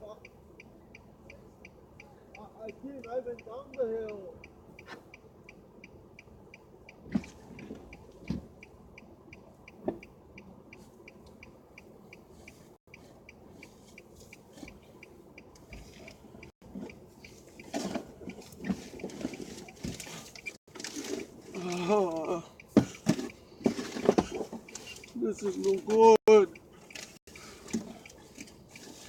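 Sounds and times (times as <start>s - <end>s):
car warning chime dinging: 0.0s - 20.6s, 21.5s - 28.9s.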